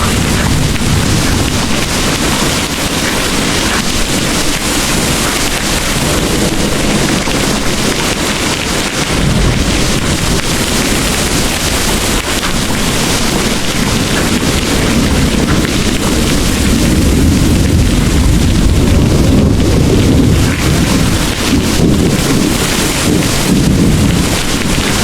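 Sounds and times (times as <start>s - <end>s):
deep rumble: 0.0s - 25.0s
heavy rain pouring: 0.0s - 25.0s.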